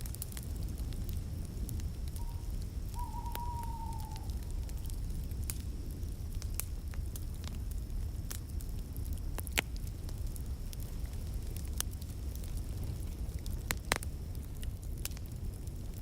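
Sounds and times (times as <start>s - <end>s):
low rumble of flames: 0.0s - 16.0s
wood fire popping and snapping: 0.0s - 16.0s.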